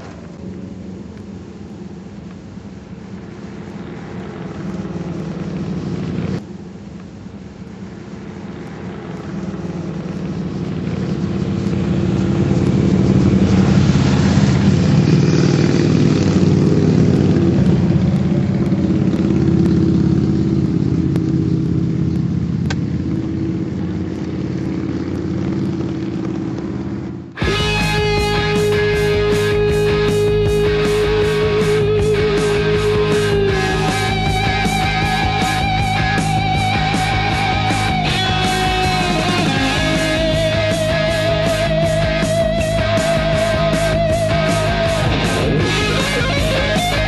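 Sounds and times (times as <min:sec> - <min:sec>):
motorcycle engine running: 0:03.4 - 0:06.4, 0:08.2 - 0:47.0.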